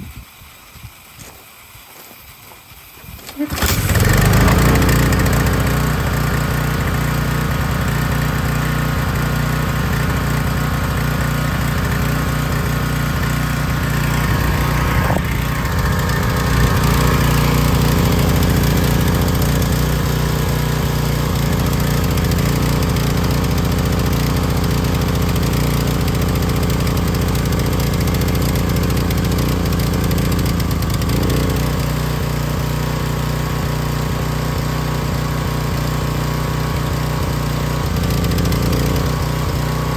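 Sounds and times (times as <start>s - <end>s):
pressure washer engine running: 3.3s - 39.9s.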